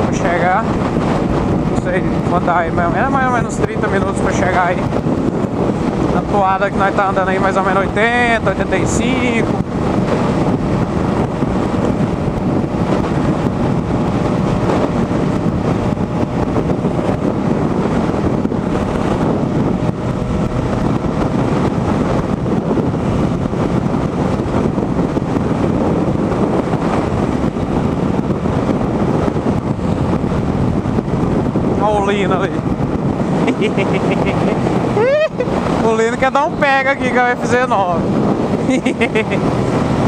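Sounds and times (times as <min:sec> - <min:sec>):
motorcycle engine drone: 0:00.0 - 0:40.0
wind rushing over microphone: 0:00.0 - 0:40.0.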